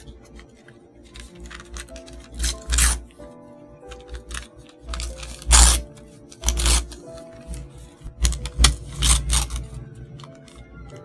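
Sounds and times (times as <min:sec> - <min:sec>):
paper tearing and crinkling: 0:00.0 - 0:03.2, 0:03.9 - 0:10.6
piano music: 0:00.0 - 0:11.0.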